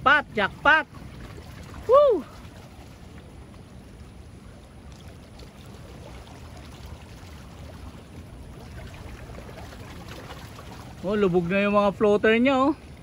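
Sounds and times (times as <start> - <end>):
water: 0.0 - 13.0
wind: 0.0 - 13.0.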